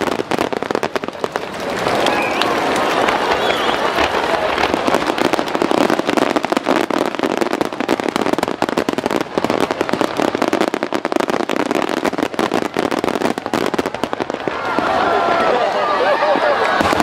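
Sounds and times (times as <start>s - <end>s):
underwater fireworks crackling: 0.0s - 17.0s.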